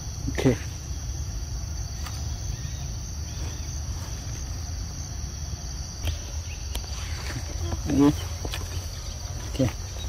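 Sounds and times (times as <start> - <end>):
insect chorus buzzing: 0.0 - 10.0.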